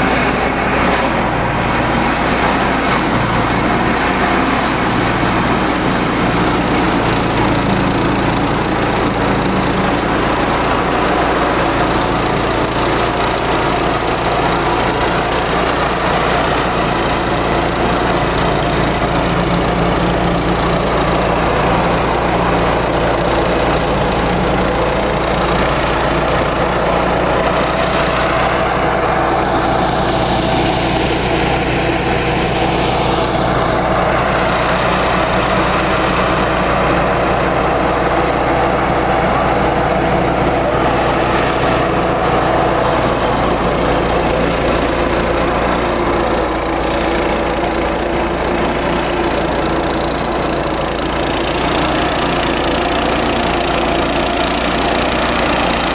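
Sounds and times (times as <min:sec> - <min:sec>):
rice thresher drone: 0:00.0 - 0:55.9.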